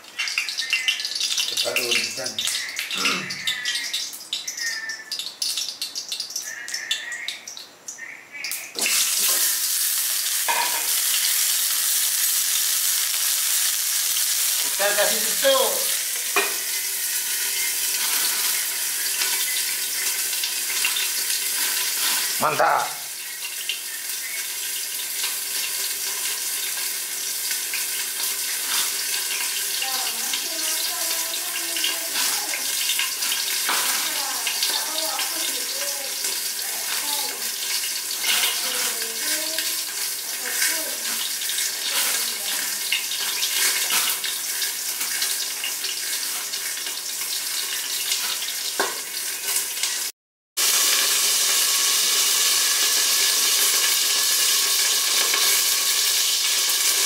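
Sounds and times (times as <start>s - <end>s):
fish sizzling in oil: 0.0s - 57.0s
oil crackling: 0.0s - 57.0s.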